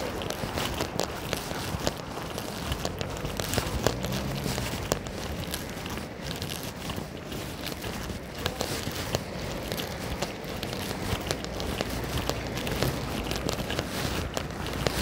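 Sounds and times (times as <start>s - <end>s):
city noise: 0.0s - 15.0s
footsteps on slushy street: 0.0s - 15.0s.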